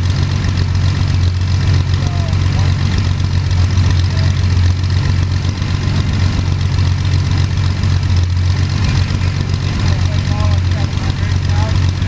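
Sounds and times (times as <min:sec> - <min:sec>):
aircraft engine idling: 0:00.0 - 0:12.0.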